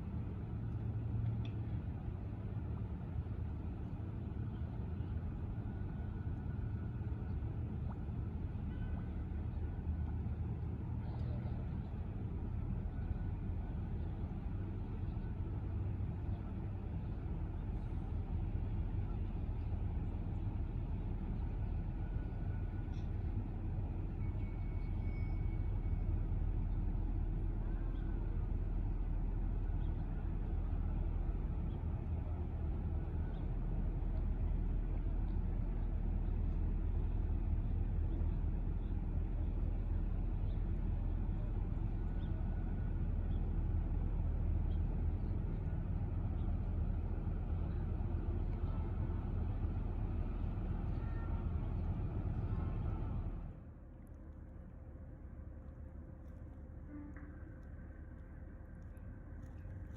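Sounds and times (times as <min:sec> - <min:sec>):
engine idling rumble: 0:00.0 - 0:59.9
harbour-side ambience: 0:00.0 - 0:59.9.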